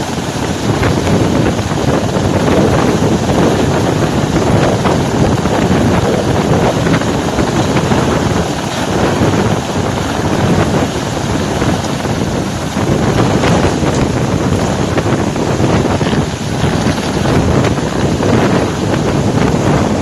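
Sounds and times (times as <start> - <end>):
helicopter noise: 0.0 - 20.0
wind buffeting microphone: 0.0 - 20.0.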